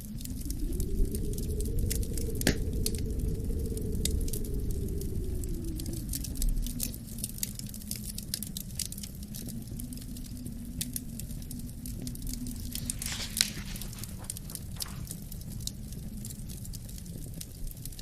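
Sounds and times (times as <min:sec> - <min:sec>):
wind moaning: 0:00.0 - 0:18.0
wood fire crackling: 0:00.0 - 0:18.0.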